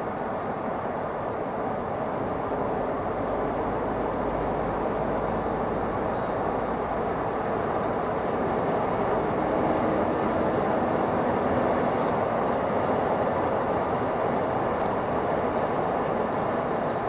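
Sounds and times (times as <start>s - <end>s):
diesel engine running: 0.0s - 17.0s
tyre and road noise: 0.0s - 17.0s.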